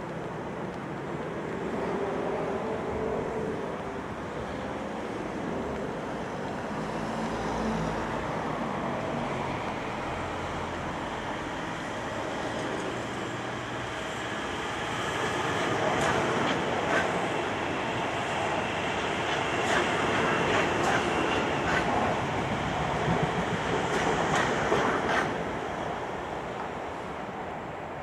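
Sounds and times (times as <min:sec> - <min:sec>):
electric train running past: 0:01.3 - 0:28.0.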